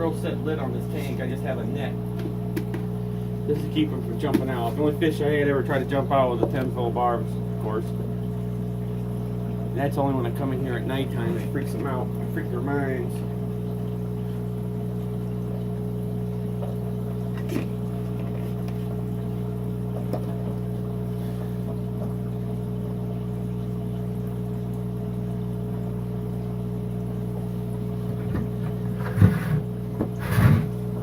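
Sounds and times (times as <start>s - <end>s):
aquarium pumps humming: 0.0s - 31.0s.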